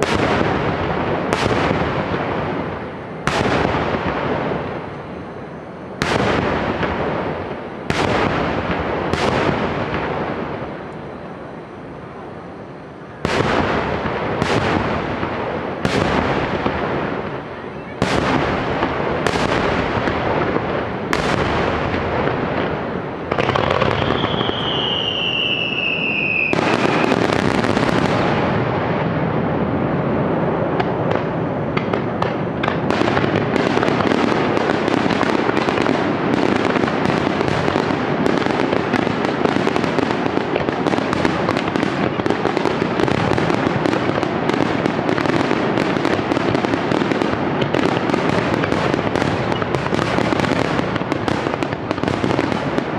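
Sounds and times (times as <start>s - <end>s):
firework crackling: 0.0s - 52.9s
whistling firework: 0.0s - 52.9s.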